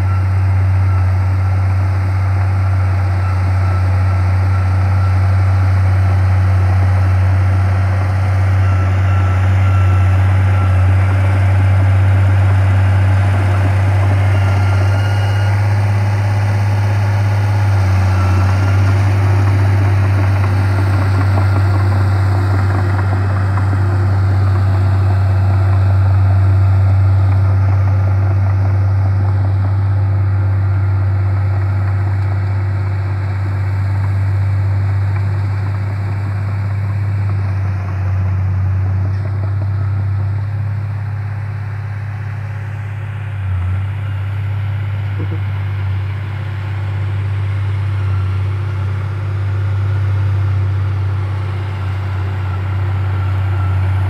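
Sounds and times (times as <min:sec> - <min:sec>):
bulldozer diesel engine drone: 0:00.0 - 0:54.0.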